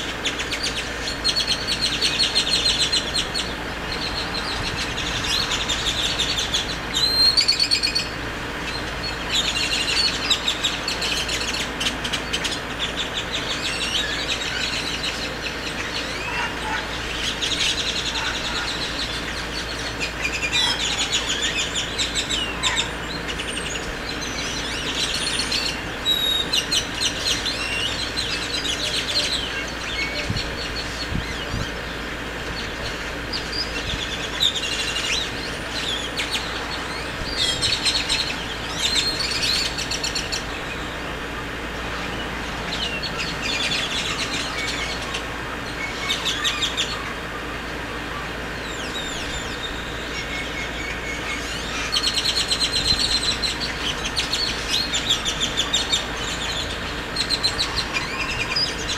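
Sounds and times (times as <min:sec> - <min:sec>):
birds chirping: 0:00.0 - 0:58.9
low background hum: 0:00.0 - 0:58.9.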